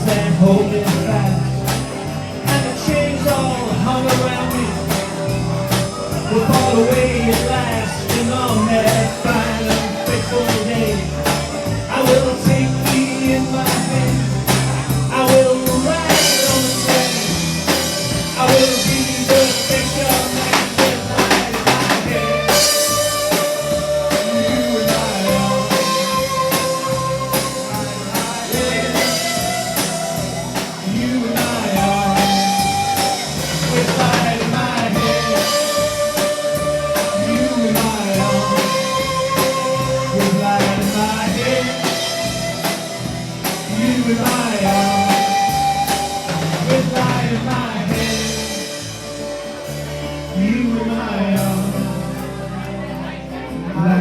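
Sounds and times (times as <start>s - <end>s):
lead instrument melody: 0.0s - 50.9s
folk-rock band playing: 0.0s - 54.0s.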